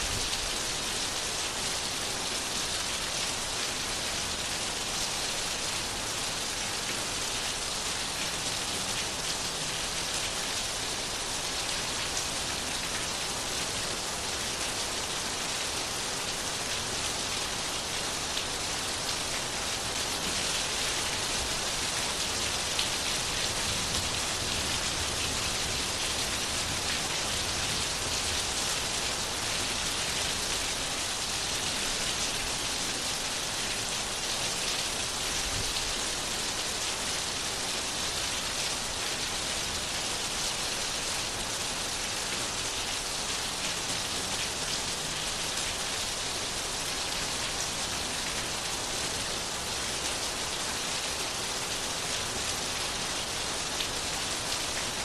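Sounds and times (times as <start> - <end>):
steady rain pattering: 0.0 - 55.0.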